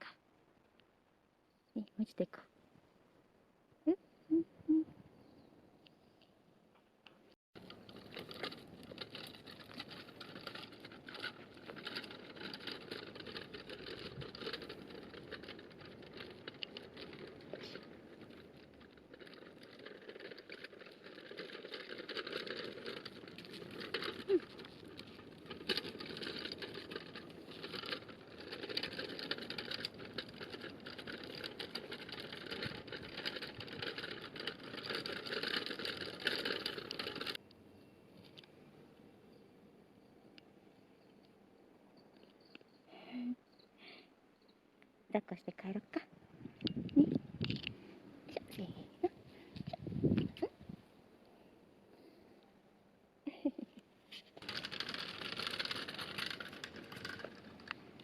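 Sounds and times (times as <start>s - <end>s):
small wheels rolling and rattling: 7.6s - 43.1s, 45.6s - 52.4s, 53.3s - 58.0s.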